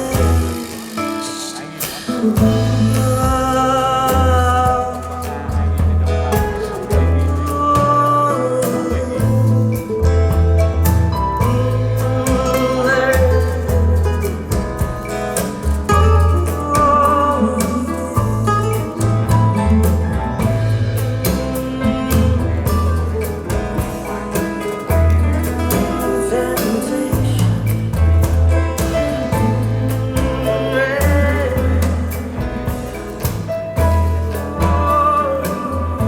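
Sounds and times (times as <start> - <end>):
instrumental music over loudspeakers: 0.0 - 36.0.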